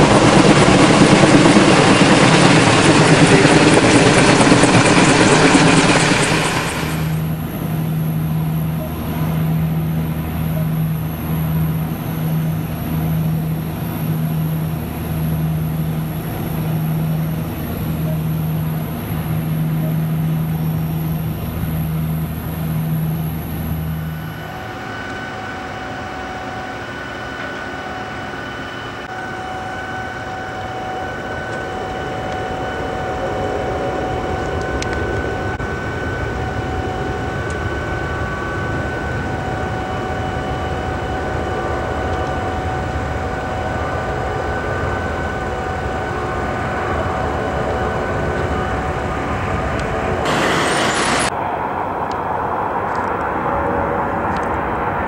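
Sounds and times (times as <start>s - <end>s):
aircraft engine drone: 0.0s - 55.0s
jet engines whining: 0.0s - 55.0s.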